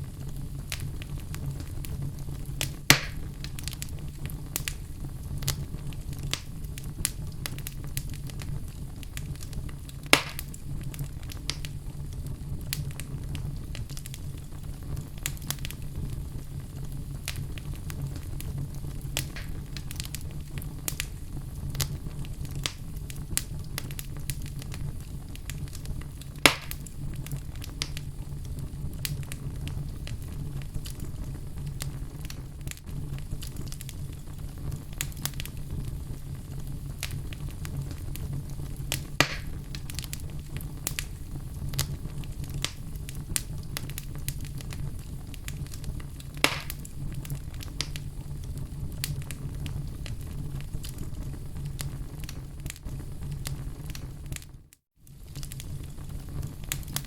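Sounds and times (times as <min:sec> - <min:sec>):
fire crackling: 0:00.0 - 0:57.0
loud fire pops: 0:00.0 - 0:57.0.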